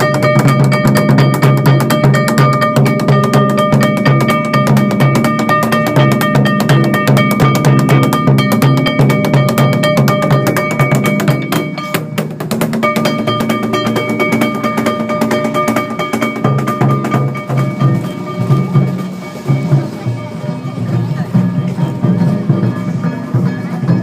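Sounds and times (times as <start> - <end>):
steady high ringing tone: 0.0 - 24.0
taiko drums fast rhythm: 0.0 - 24.0.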